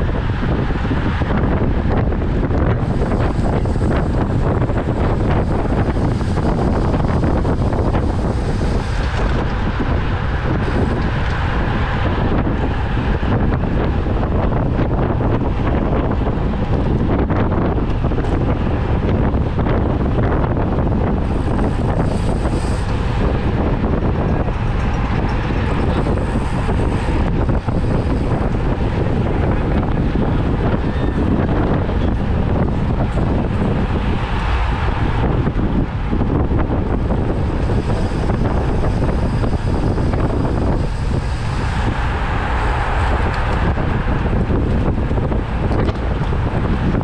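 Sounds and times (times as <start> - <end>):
wind noise on microphone: 0.0 - 47.0.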